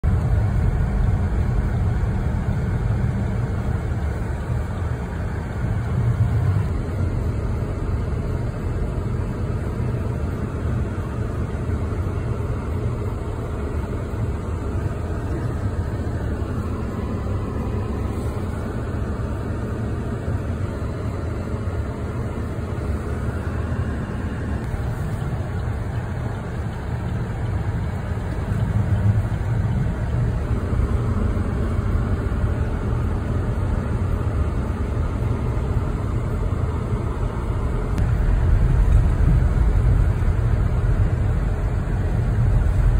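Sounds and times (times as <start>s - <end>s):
car engine and tyres rumbling: 0.0s - 42.9s.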